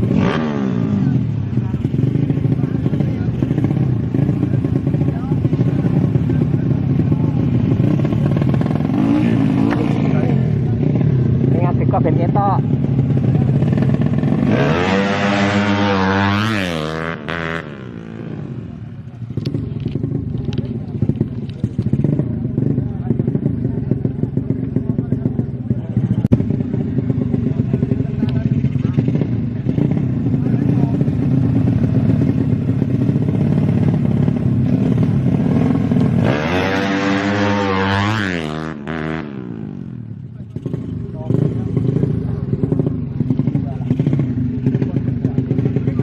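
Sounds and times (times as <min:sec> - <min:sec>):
motorcycle engine revving by: 0:00.0 - 0:46.0.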